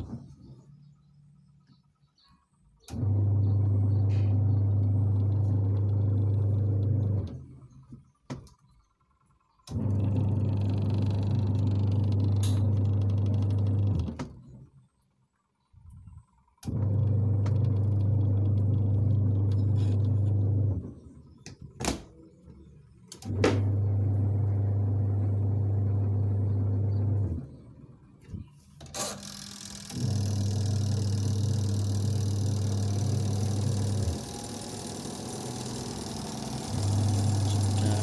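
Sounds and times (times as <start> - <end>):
washing machine motor humming: 2.8 - 14.9, 16.2 - 28.0, 28.8 - 38.0.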